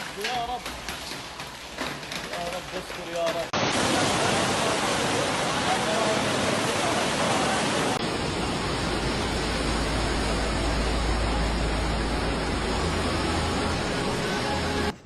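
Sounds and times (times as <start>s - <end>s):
wind and rain storm: 0.0s - 14.9s.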